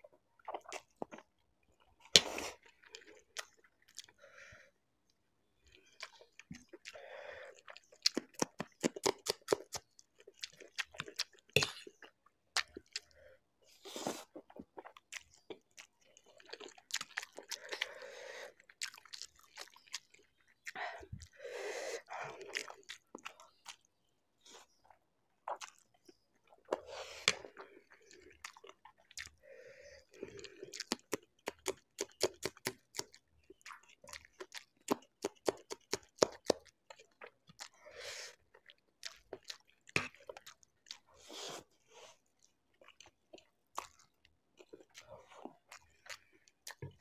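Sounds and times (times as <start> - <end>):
wet chewing: 5.6 - 13.2, 13.8 - 21.4, 22.0 - 29.4, 30.0 - 47.0.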